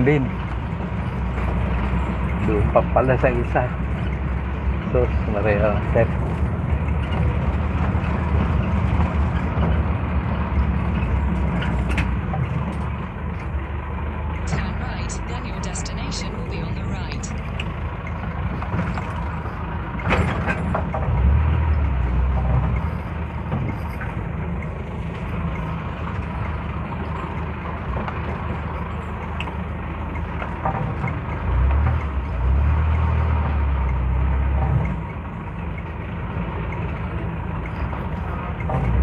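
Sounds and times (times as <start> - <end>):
vehicle engine and road rumble: 0.0 - 39.0.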